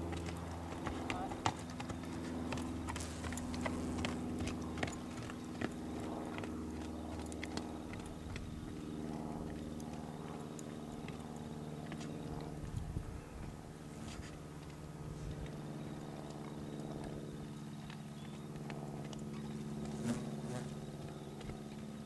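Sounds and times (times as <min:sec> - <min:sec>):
hooves on dry dirt: 0:00.0 - 0:22.0
steady low hum: 0:00.0 - 0:22.0.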